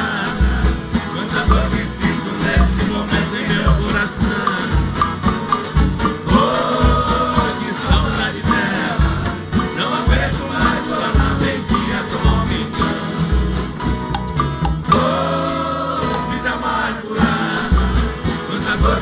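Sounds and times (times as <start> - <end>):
person singing: 0.0 - 5.0, 6.2 - 13.3, 14.9 - 19.0.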